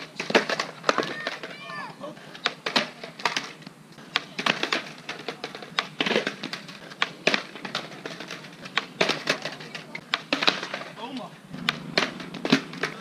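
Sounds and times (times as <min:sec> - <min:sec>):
skateboard clattering on concrete: 0:00.0 - 0:13.0.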